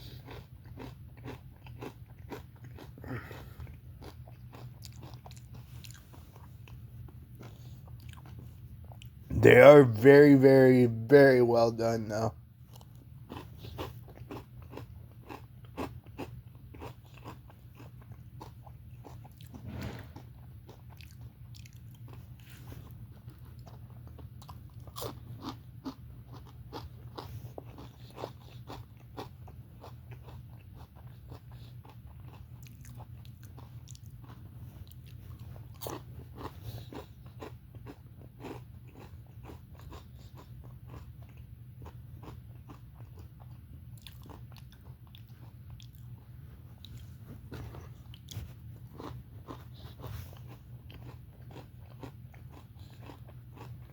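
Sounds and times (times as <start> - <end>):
chewing crispy potatoes: 0.0 - 53.9.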